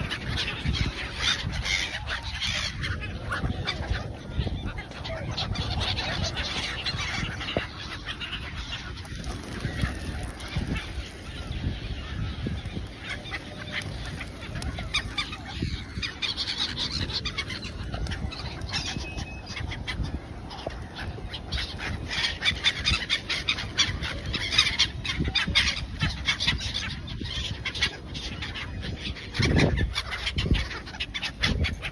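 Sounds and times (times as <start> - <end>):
gulls calling: 0.0 - 31.9.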